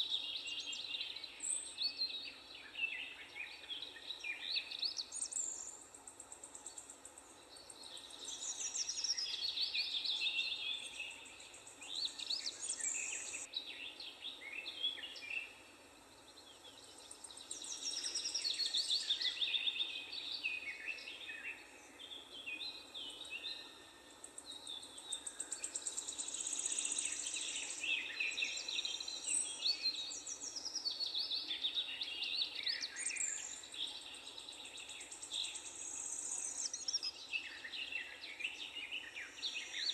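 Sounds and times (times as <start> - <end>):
birds singing and chirping: 0.0 - 15.6, 16.2 - 39.9.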